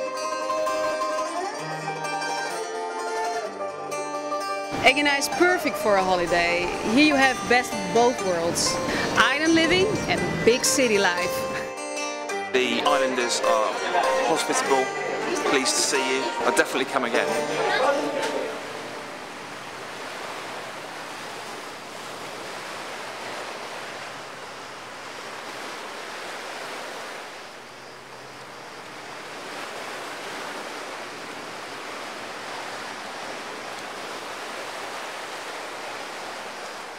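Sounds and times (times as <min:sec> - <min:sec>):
sea waves washing on shore: 0:04.7 - 0:11.7, 0:12.6 - 0:36.9.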